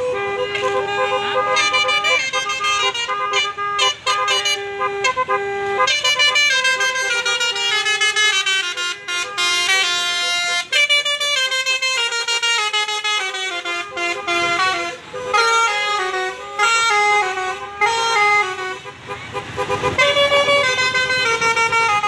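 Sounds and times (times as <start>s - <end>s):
bus musical horn tune: 0.0s - 22.0s.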